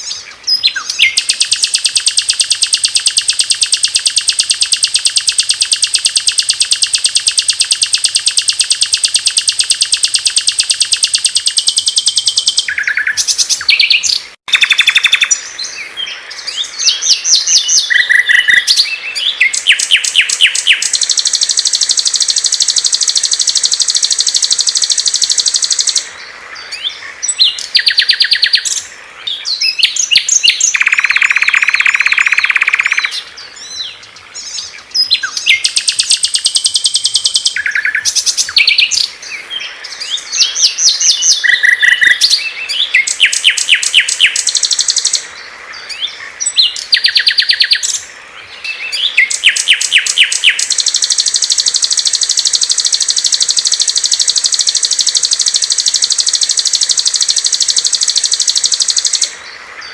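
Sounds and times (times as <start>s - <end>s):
short bird chirps: 0.0s - 39.1s, 39.7s - 48.0s, 48.6s - 59.4s
songbirds trilling: 0.0s - 59.9s.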